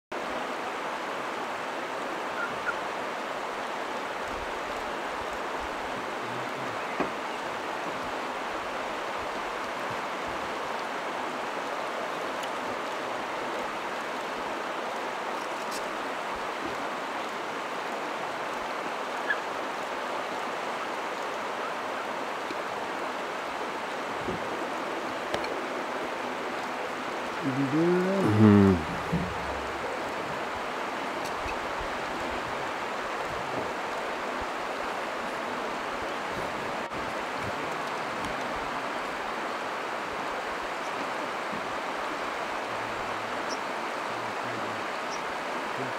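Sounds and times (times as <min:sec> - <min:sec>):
river water over stones: 0:00.1 - 0:45.9.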